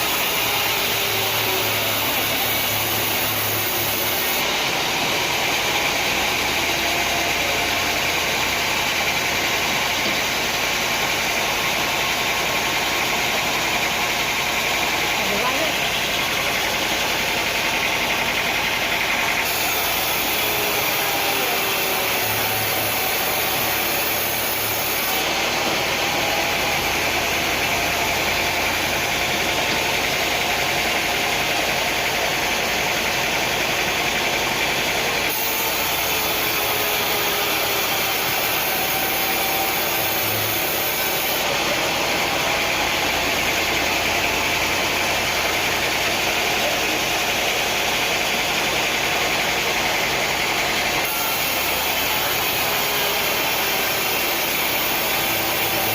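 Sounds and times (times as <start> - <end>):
sawmill engine drone: 0.0 - 55.9.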